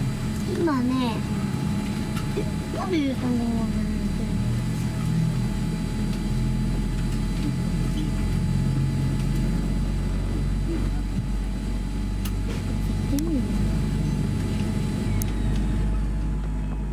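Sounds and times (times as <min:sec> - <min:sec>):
aircraft cabin drone: 0:00.0 - 0:16.9
ventilation whining tones: 0:00.0 - 0:16.9.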